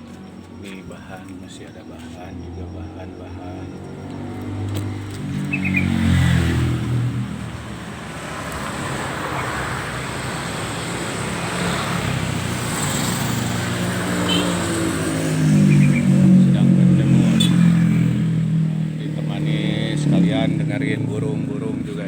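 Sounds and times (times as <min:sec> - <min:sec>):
rush of passing traffic: 0:00.0 - 0:22.0
vehicle engine passing: 0:00.0 - 0:22.0.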